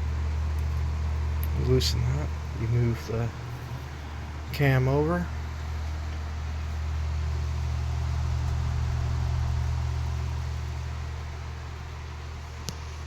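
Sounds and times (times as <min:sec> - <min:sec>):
oscillating electric fan running: 0:00.0 - 0:13.0.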